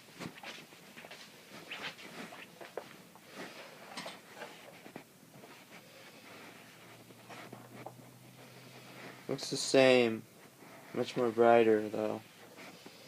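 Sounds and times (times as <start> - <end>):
quiet footsteps indoors: 0.0 - 13.0
soft clicks and rustles: 0.0 - 13.0.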